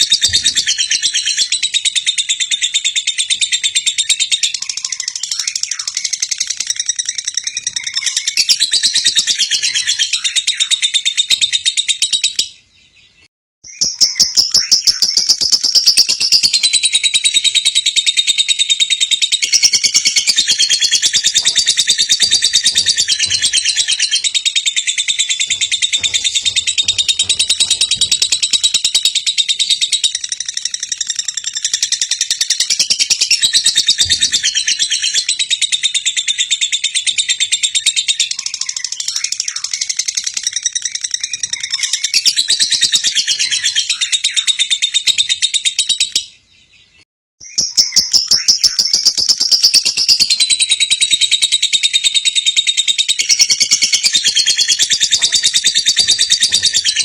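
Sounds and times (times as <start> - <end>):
bird rapid high-pitched trilling: 0.0 - 12.6, 13.7 - 46.4, 47.4 - 57.0.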